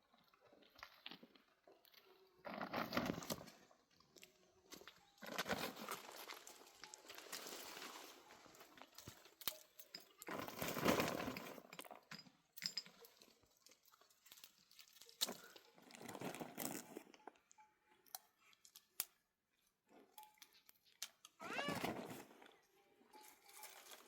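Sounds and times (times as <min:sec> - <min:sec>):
crunching and rustling: 0:00.2 - 0:12.0, 0:12.9 - 0:19.1, 0:19.8 - 0:24.0.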